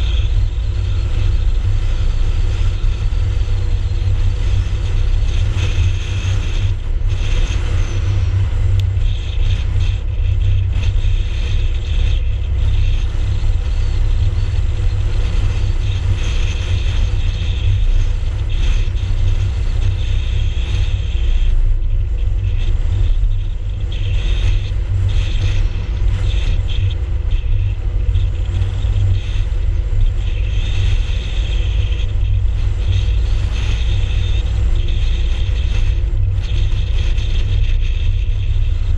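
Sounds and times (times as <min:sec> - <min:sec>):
car road and engine rumble: 0:00.0 - 0:38.9
fluttering wind hiss: 0:00.0 - 0:38.9.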